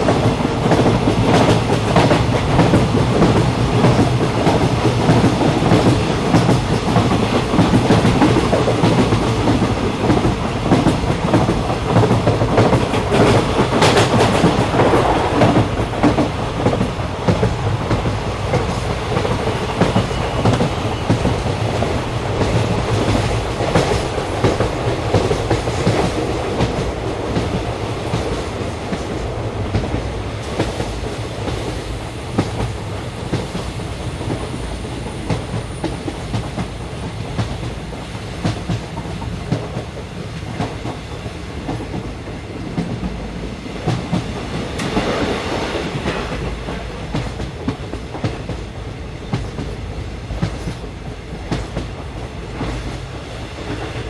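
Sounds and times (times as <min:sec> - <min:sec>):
train rumble and hiss: 0:00.0 - 0:54.0.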